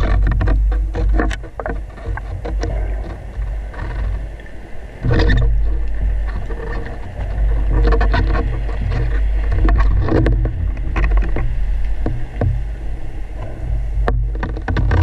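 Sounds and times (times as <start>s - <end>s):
underwater water rumble: 0.0s - 15.0s.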